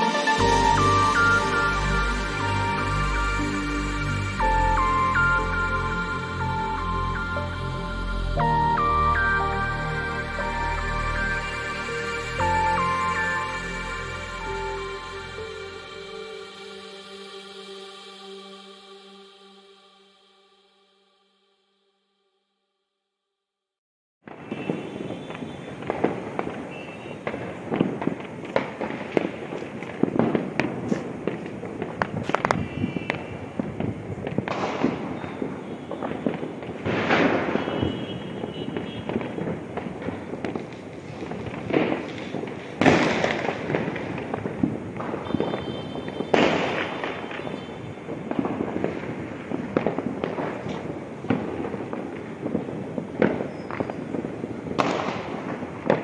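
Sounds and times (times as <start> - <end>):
firecrackers crackling: 0.0 - 16.2, 24.2 - 56.0
echoing firework blasts: 0.0 - 19.5, 24.2 - 56.0
firework whistles: 0.0 - 21.0, 24.3 - 56.0.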